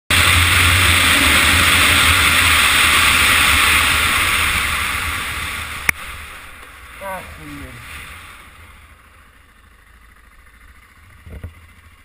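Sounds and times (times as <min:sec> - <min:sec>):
motorcycle riding noise: 0:00.1 - 0:12.0.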